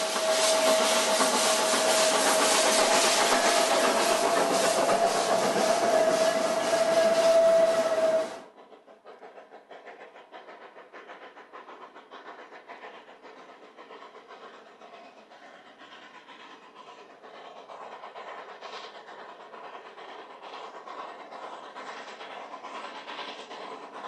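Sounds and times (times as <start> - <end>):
train clattering: 0.0 - 24.0.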